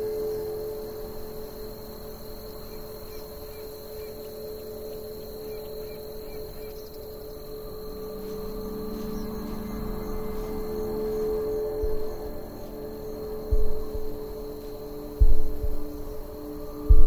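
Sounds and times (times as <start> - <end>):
low ambient drone: 0.0 - 17.0.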